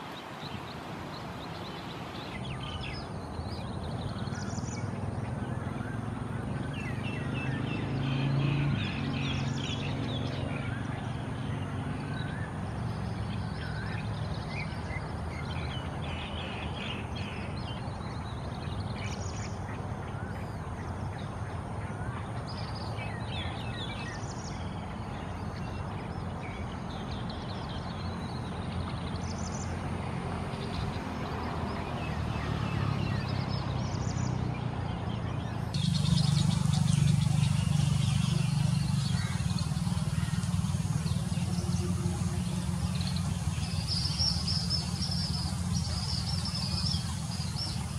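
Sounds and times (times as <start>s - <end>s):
birds chirping and trilling: 0.0s - 47.9s.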